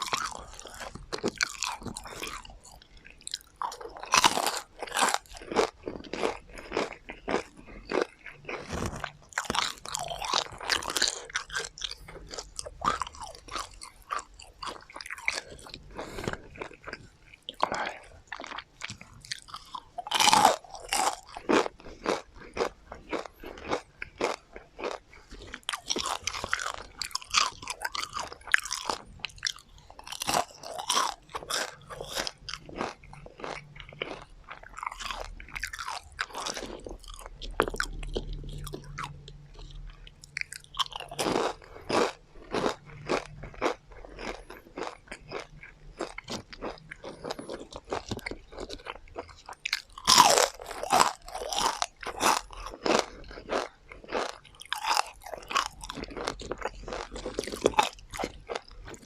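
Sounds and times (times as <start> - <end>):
crunching and chewing: 0.0 - 59.0.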